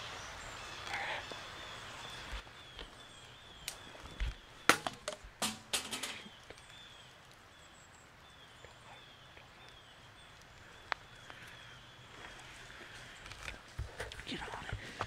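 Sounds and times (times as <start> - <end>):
sharp crackles and snaps: 0.8 - 15.0.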